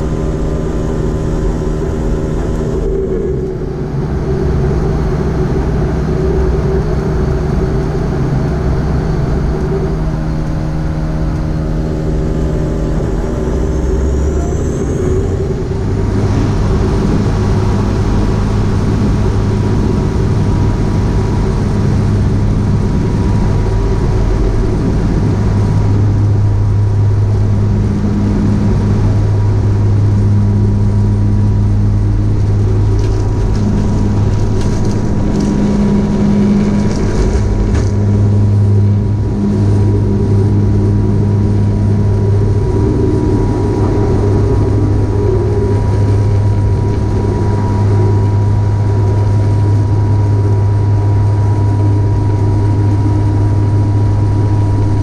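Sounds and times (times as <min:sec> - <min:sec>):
thin constant whine: 0:00.0 - 0:55.0
turboprop engines deep drone: 0:00.0 - 0:55.0.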